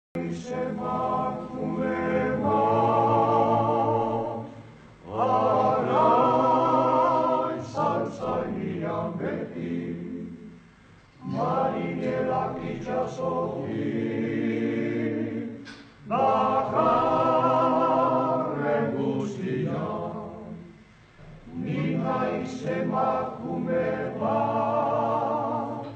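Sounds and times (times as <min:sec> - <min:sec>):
men singing a cappella: 0:00.2 - 0:10.6, 0:11.2 - 0:20.8, 0:21.4 - 0:25.9.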